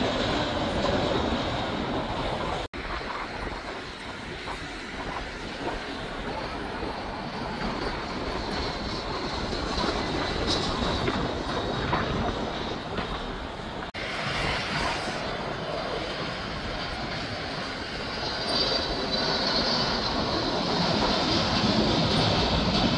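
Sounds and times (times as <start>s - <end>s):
high jet engine whine: 0.0s - 22.9s
jet engines on approach: 0.0s - 22.9s.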